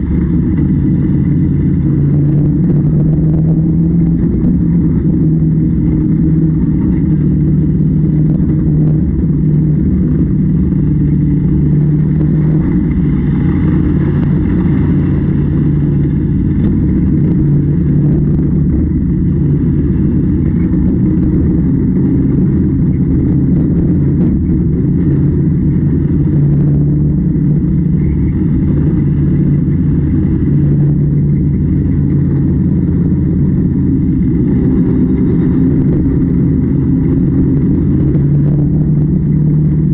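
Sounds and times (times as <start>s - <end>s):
machinery engine droning: 0.0s - 39.9s.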